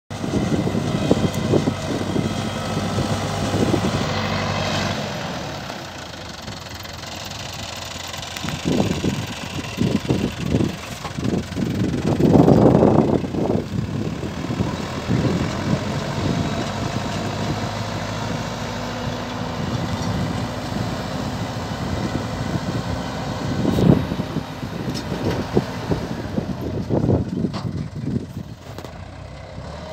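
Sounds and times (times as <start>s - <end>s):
tractor engine running: 0.1s - 29.9s.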